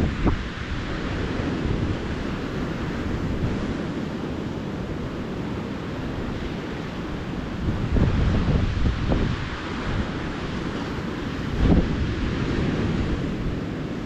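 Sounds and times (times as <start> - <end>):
ocean surf washing onto beach: 0.0 - 14.0
wind rumble on microphone: 0.0 - 14.0.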